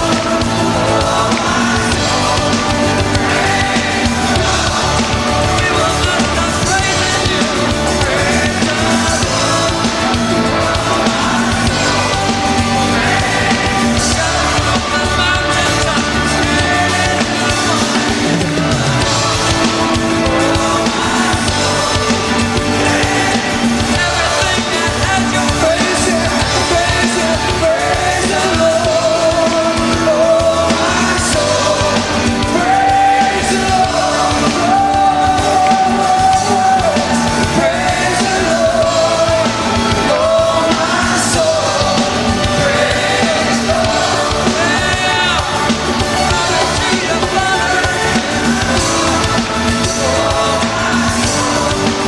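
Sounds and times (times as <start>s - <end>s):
electric guitars: 0.0s - 52.0s
live rock band with singing: 0.0s - 52.0s.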